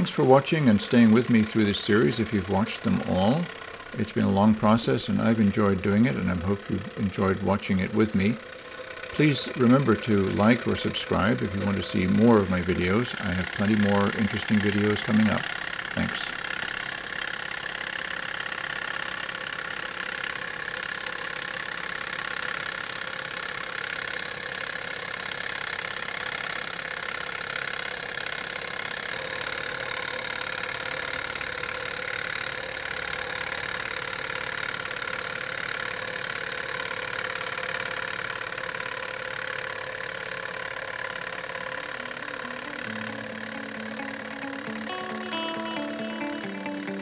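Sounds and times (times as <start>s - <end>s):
model engine running: 0.0s - 47.0s.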